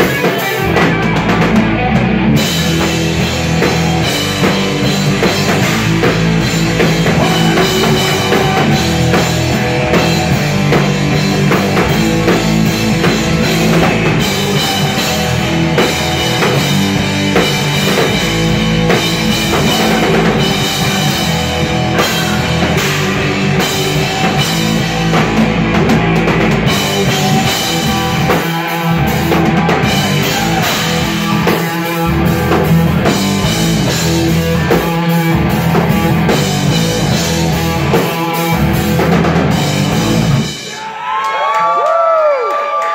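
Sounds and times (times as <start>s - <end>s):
electric guitars: 0.0s - 40.8s
drum kit beat: 0.0s - 40.9s
rock band playing: 0.0s - 41.1s.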